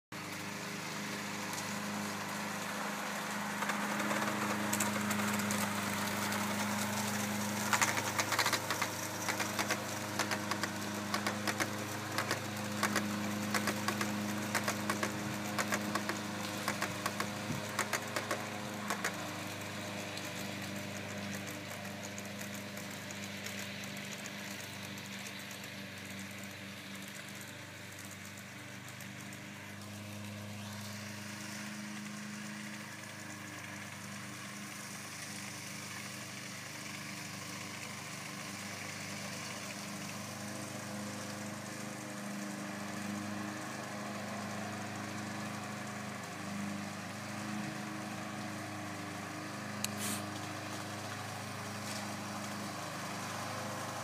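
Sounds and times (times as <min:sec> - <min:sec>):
model train humming: 0:00.2 - 0:54.0
wheels clicking over rail joints: 0:00.2 - 0:54.0.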